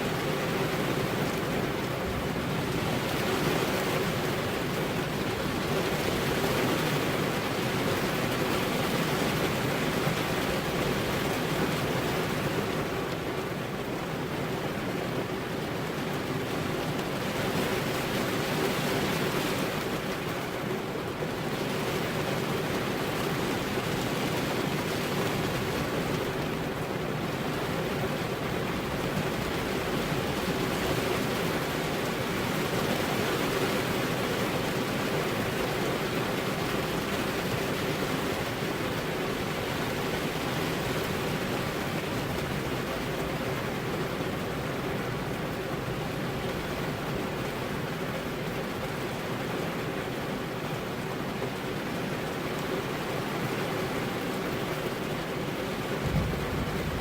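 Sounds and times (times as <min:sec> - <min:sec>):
rain on car windows: 0:00.0 - 0:57.0.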